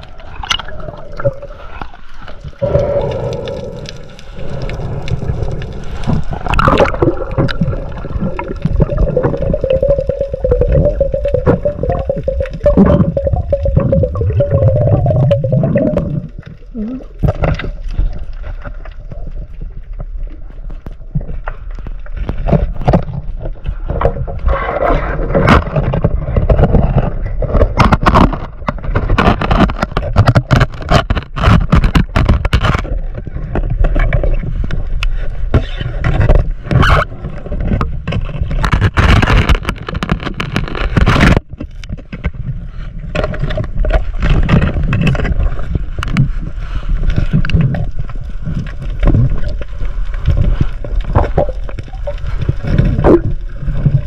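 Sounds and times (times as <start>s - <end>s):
water rushing underwater: 0.0s - 54.0s.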